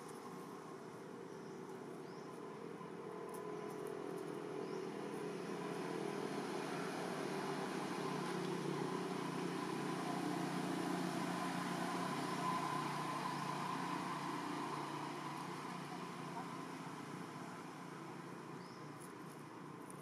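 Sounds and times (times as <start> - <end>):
distant engine humming: 0.0 - 19.4.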